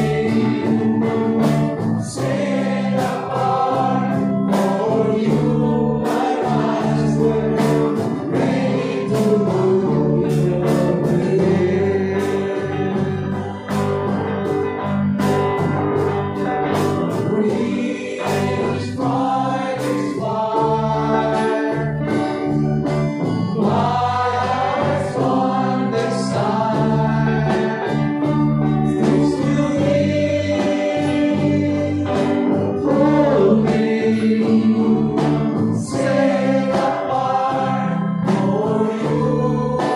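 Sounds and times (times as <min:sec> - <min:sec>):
person singing: 0:00.0 - 0:13.7, 0:17.1 - 0:22.5, 0:23.2 - 0:39.9
acoustic guitar: 0:00.0 - 0:39.9
electric guitar: 0:00.0 - 0:39.9
keyboard: 0:00.0 - 0:39.9.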